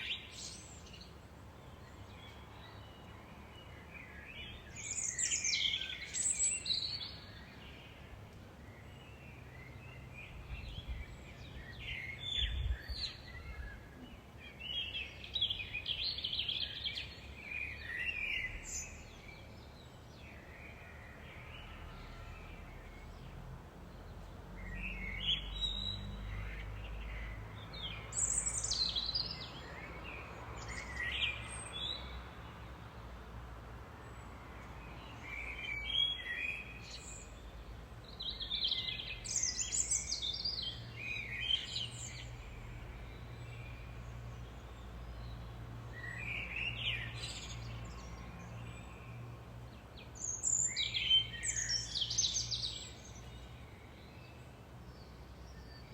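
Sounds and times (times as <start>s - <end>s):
songbirds chirping and trilling: 0.0s - 55.9s.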